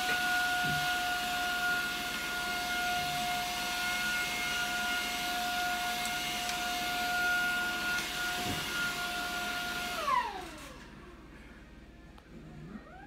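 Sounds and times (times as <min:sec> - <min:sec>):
vacuum cleaner running: 0:00.0 - 0:11.9.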